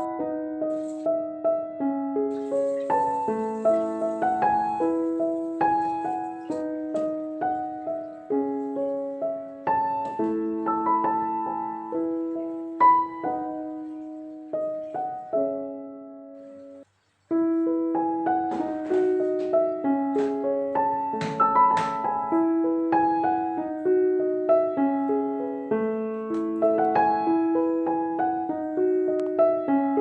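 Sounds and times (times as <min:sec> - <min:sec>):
gentle solo piano melody: 0:00.0 - 0:30.0.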